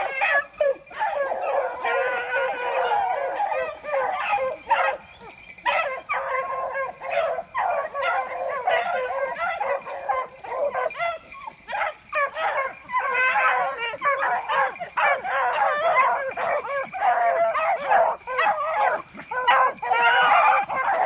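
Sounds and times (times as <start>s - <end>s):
hounds baying: 0.0s - 21.0s.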